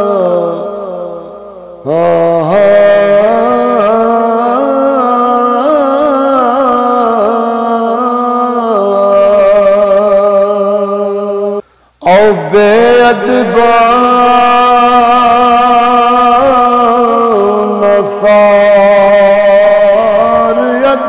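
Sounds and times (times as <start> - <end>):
man singing long held notes: 0.0 - 21.0.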